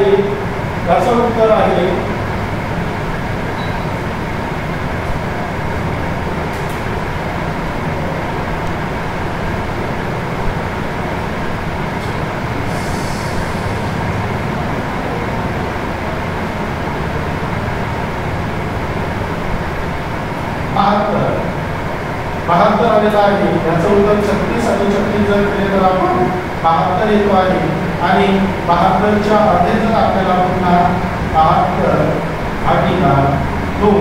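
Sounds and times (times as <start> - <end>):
mechanical hum and hiss: 0.0 - 34.0.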